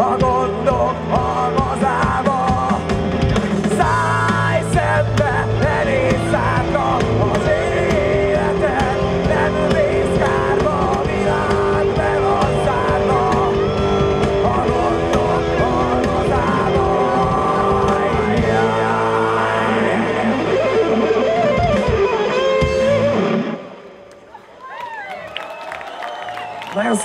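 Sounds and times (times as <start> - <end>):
drum kit: 0.0 - 23.6
bass guitar: 0.0 - 23.8
distorted electric guitars: 0.0 - 24.0.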